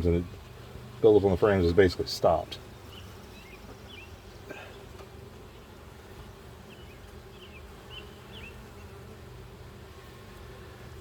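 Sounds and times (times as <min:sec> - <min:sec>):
honey bees buzzing: 0:00.0 - 0:11.0.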